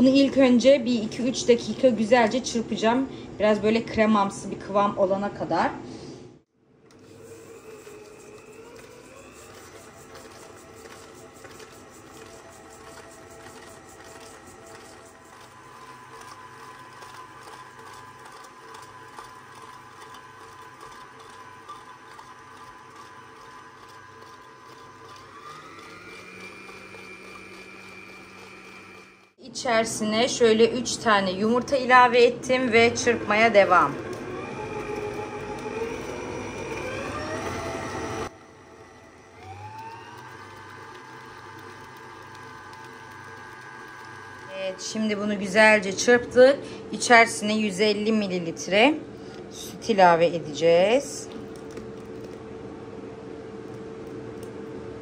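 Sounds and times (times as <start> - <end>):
electric stand mixer running: 6.9 - 29.4, 30.4 - 55.0.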